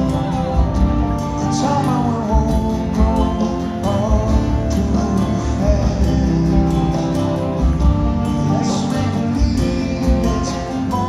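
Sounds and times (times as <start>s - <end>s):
electric bass: 0.0s - 11.0s
live band music: 0.0s - 11.0s
strummed acoustic guitar: 0.0s - 11.0s
trumpet and saxophone melody: 0.0s - 11.0s.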